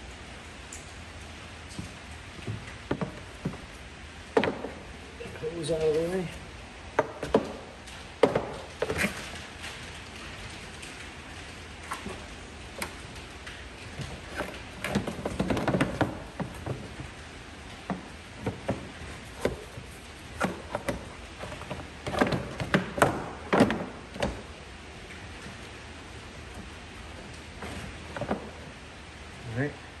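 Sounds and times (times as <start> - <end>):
steady low hiss: 0.0 - 30.0.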